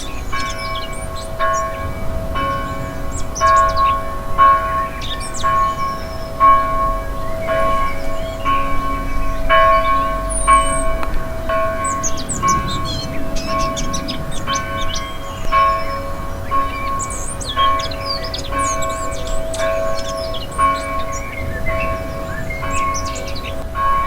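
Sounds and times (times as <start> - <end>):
birds twittering and chirping: 0.0 - 24.0
church bell tolling: 0.0 - 24.0.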